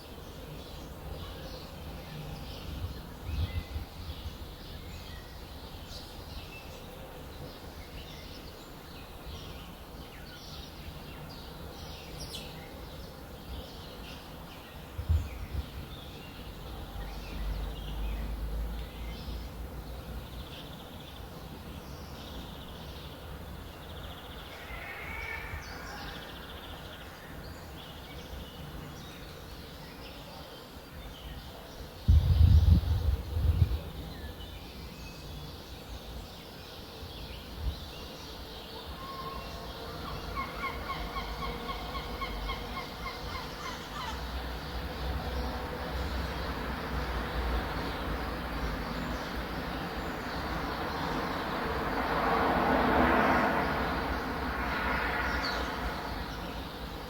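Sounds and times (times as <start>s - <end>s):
small birds chirping: 0.0s - 51.5s.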